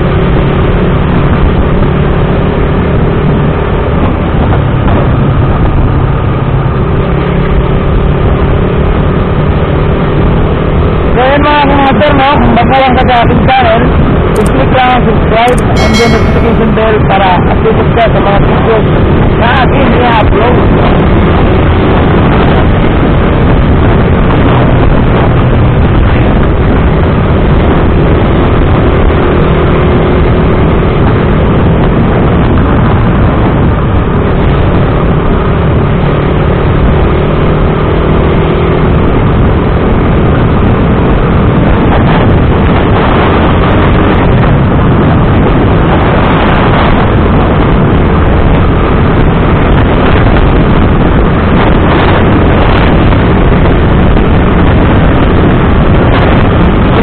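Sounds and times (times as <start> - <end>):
wind rush over microphone: 0.0 - 57.0.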